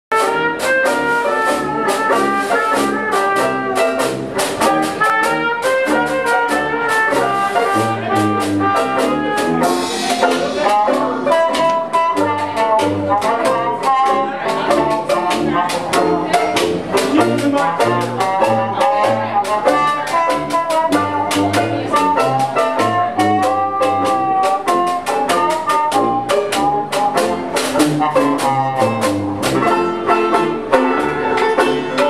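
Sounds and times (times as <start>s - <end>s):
steady drum beat: 0.1s - 32.0s
upbeat jazz with brass horns: 0.1s - 32.0s.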